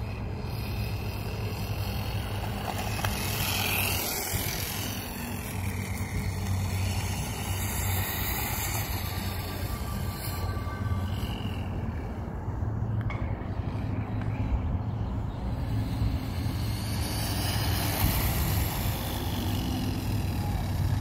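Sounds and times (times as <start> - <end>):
rc motor whining: 0.0 - 21.0.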